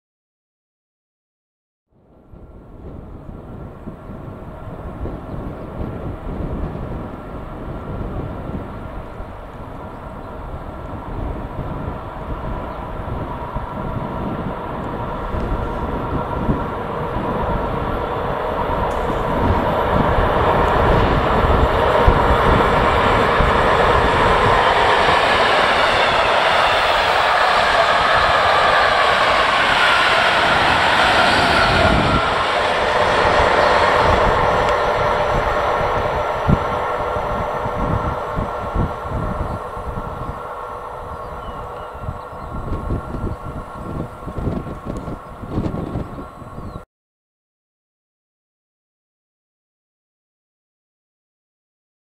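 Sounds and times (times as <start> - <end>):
diesel locomotive engine rumble: 1.9 - 46.8
train wheels on rails: 2.4 - 46.8.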